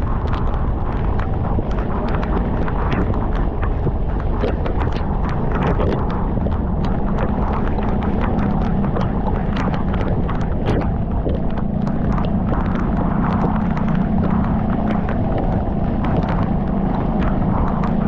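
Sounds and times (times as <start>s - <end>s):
motorcycle engine hum: 0.0s - 18.0s
raindrops ticking on microphone: 0.0s - 18.0s
wind rumble: 0.0s - 18.0s.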